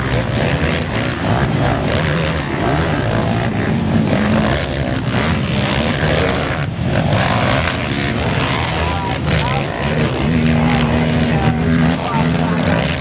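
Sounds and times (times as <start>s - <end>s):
racing quad bike engines revving: 0.0s - 13.0s.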